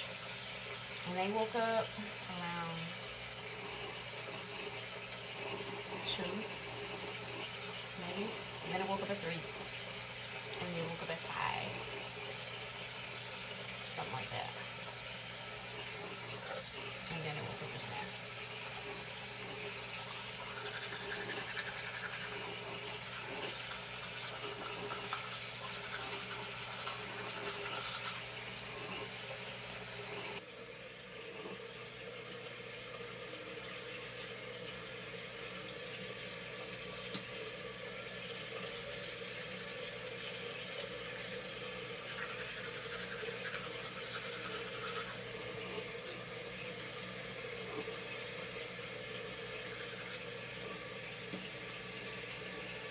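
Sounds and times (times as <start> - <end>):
faucet water running into sink: 0.0 - 52.9.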